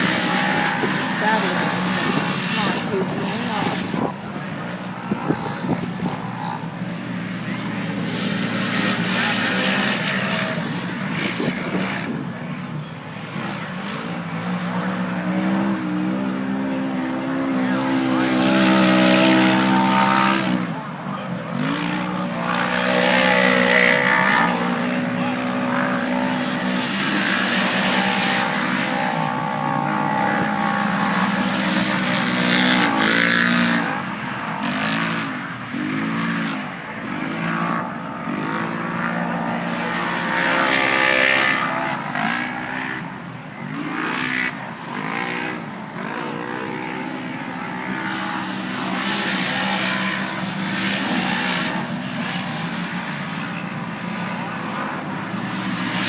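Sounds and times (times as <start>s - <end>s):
race engines revving: 0.0s - 56.0s.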